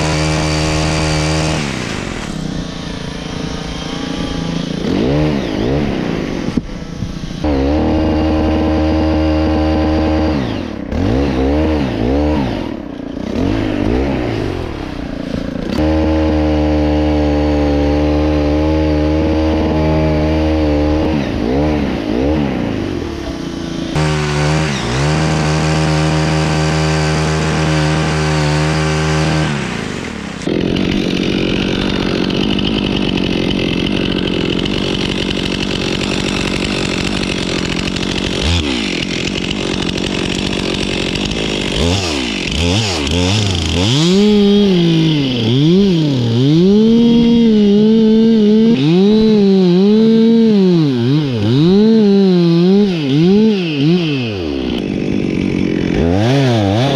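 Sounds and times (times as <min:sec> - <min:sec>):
chainsaw revving: 0:00.0 - 0:56.9.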